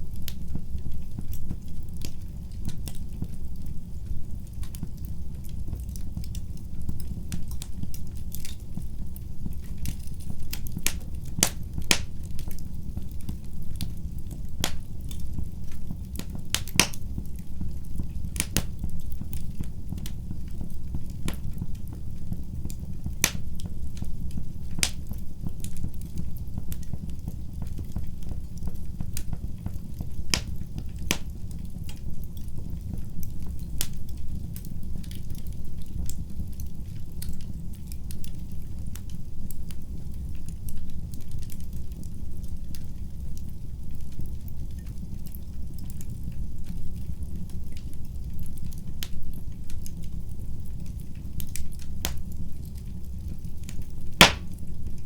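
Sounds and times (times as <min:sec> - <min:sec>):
logs crackling and popping: 0:00.0 - 0:55.0
wood fire burning: 0:00.0 - 0:55.0.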